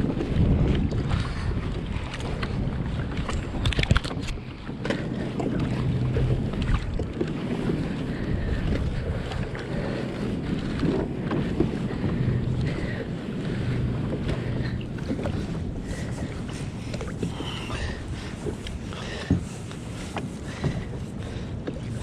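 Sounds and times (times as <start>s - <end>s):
water splashing against kayak: 0.0s - 22.0s
wind buffeting microphone: 0.0s - 22.0s.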